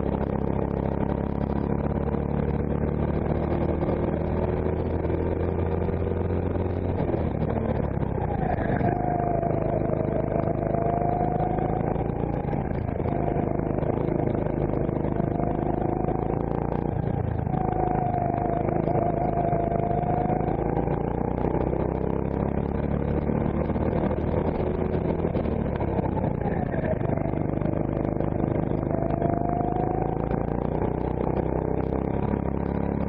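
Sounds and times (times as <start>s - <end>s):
kart engine running hard: 0.0s - 33.0s.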